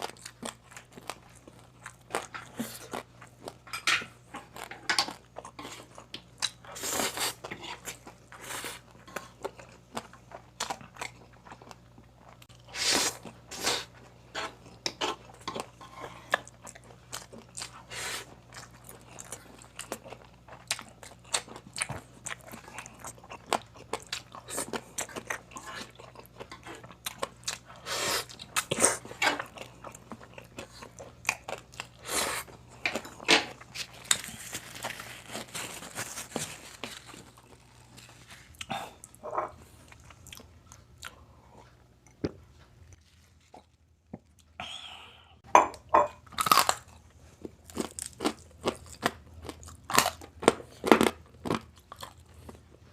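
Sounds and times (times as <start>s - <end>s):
crunching and chewing: 0.0s - 44.6s, 45.8s - 52.9s.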